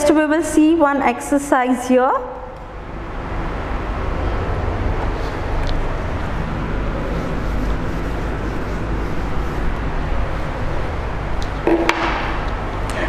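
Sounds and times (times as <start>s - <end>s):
low room rumble and hiss: 0.0s - 13.0s.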